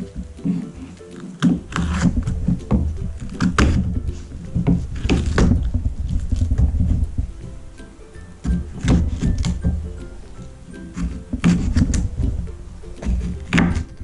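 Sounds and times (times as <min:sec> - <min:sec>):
knife cutting on wooden board: 0:00.0 - 0:07.4, 0:08.5 - 0:09.9, 0:10.8 - 0:14.0.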